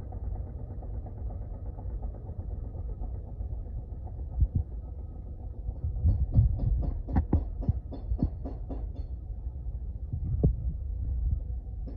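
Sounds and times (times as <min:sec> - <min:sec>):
washing machine low rumble: 0:00.0 - 0:08.4, 0:09.1 - 0:11.9.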